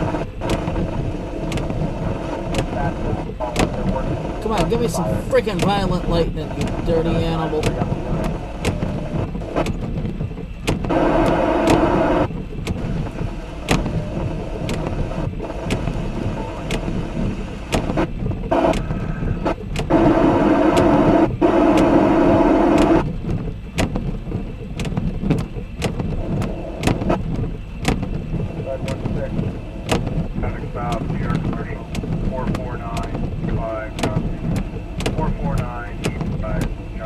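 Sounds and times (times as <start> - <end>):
low rain rumble: 0.0 - 37.0
raindrops ticking: 0.0 - 37.0
steady hum: 0.0 - 37.0.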